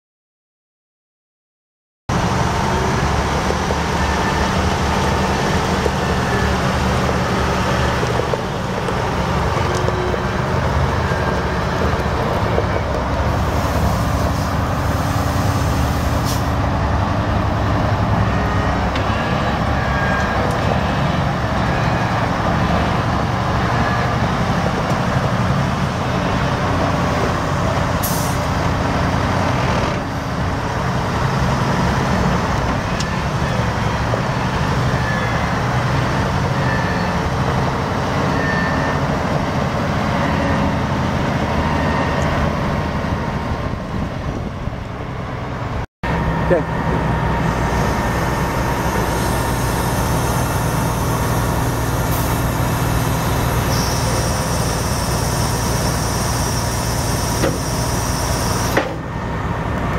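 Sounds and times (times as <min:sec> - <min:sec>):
diesel truck engine running: 0:02.1 - 0:38.3, 0:39.1 - 0:59.9.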